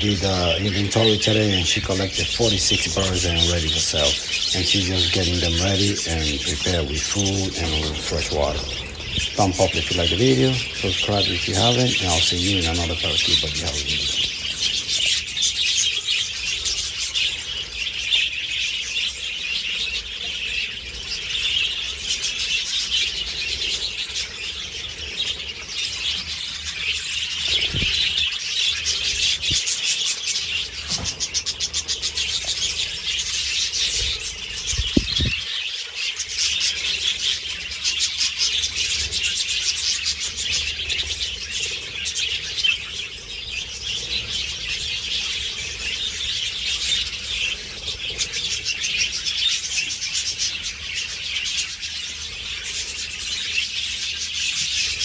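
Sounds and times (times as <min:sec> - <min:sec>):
parakeet flock chattering: 0:00.0 - 0:55.0.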